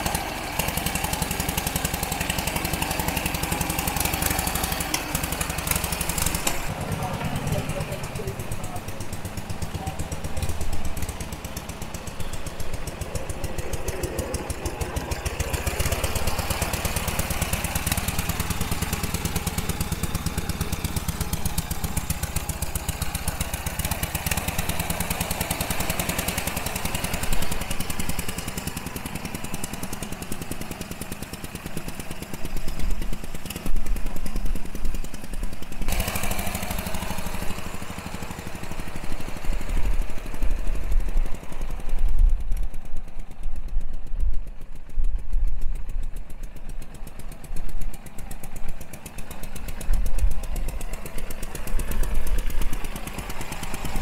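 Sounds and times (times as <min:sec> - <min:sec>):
twin-cylinder engine running: 0:00.0 - 0:54.0.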